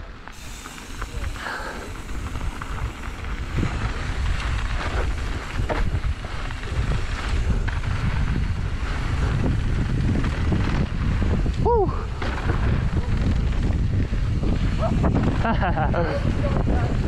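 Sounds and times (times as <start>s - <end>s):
bike knocks and rattles: 0.3s - 15.9s
wind buffeting microphone: 0.4s - 17.0s.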